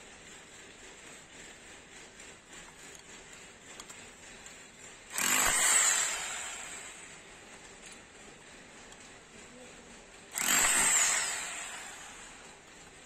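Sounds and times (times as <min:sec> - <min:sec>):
rotary hammer chiselling stone: 0:00.4 - 0:09.3, 0:10.2 - 0:13.0.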